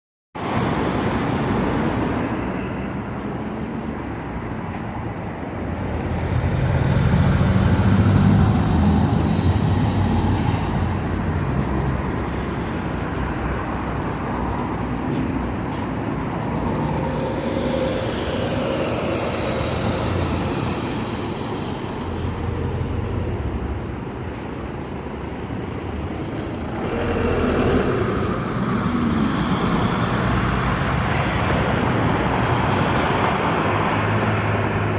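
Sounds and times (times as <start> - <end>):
heavy vehicle engine hum: 0.4 - 34.9
vehicles passing: 0.4 - 34.9.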